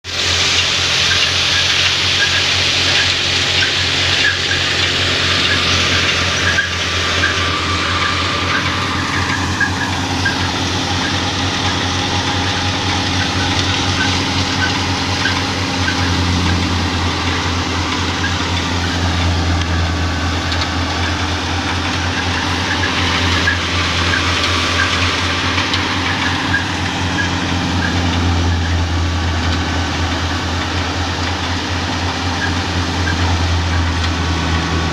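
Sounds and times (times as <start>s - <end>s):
low engine drone: 0.0s - 34.9s
thresher rushing noise: 0.0s - 34.9s.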